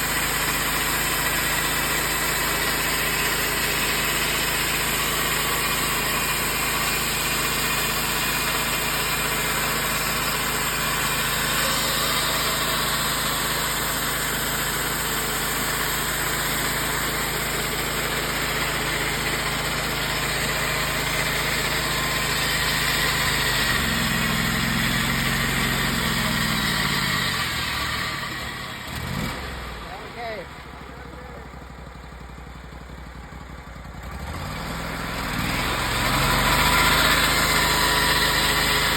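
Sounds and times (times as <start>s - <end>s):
saw cutting wood: 0.0s - 30.4s, 34.2s - 38.9s
sawmill gas engine running: 0.0s - 38.9s.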